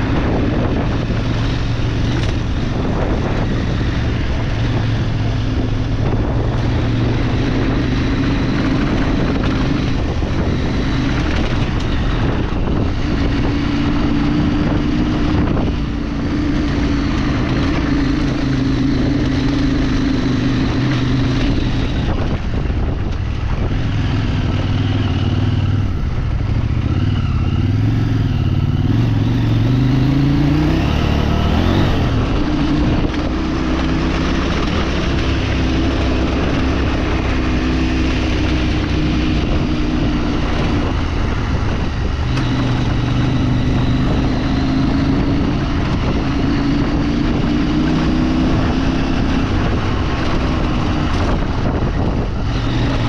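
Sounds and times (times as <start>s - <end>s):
vehicle engine running: 0.0s - 53.0s
wind: 0.0s - 53.0s.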